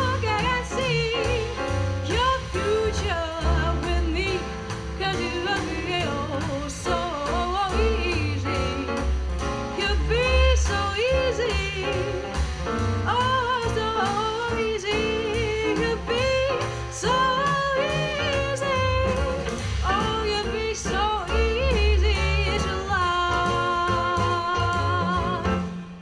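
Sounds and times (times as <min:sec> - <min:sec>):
woman singing: 0:00.0 - 0:25.8
jazz trio playing: 0:00.0 - 0:26.0.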